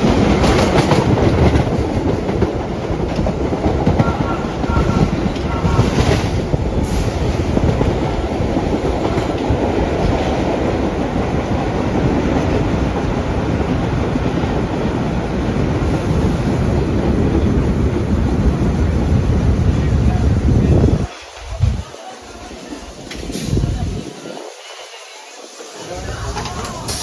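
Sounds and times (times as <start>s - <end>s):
subway wheels rumbling on rail: 0.0s - 27.0s.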